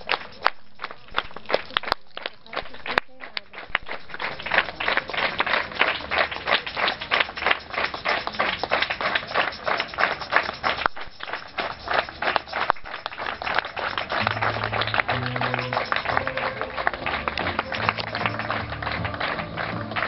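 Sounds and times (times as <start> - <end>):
hands clapping in rhythm: 0.0 - 20.0.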